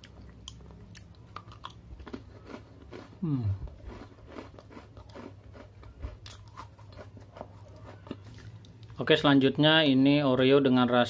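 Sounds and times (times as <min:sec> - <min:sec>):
cookie crunching in mouth: 0:00.0 - 0:09.0.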